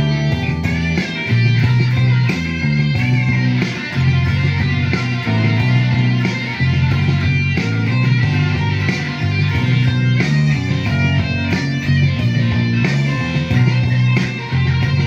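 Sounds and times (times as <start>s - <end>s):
electric guitar playing heavy rock: 0.0s - 15.0s.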